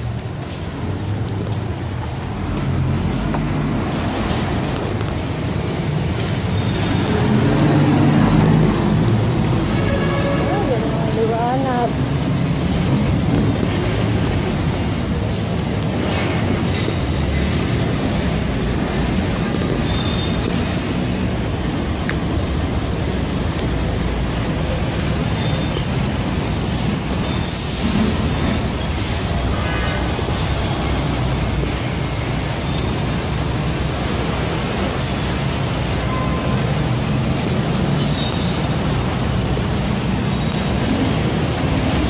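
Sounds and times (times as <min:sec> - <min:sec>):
city traffic noise: 0:00.0 - 0:42.0.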